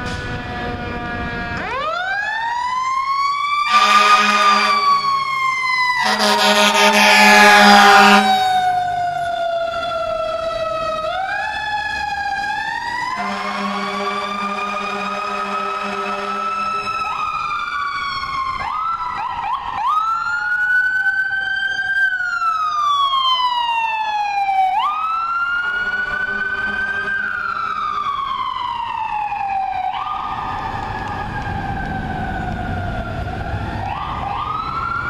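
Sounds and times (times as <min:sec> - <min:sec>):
fire engine sirens wailing: 0:00.0 - 0:35.0.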